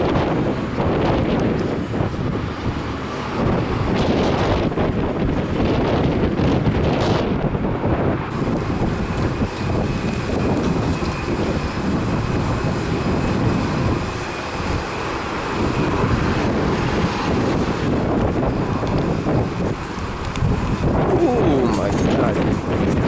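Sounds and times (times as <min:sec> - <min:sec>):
jet engines rumbling: 0:00.0 - 0:23.0
wind buffeting microphone: 0:00.0 - 0:23.0.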